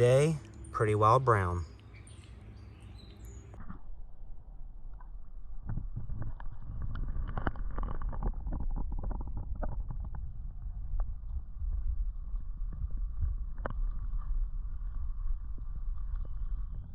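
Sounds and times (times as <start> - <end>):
wind rumble on microphone: 1.9 - 16.9.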